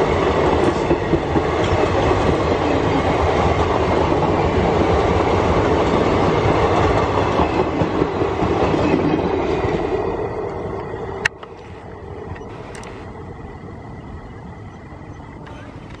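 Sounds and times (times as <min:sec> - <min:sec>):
train wheels clattering on rails: 0:00.0 - 0:13.1.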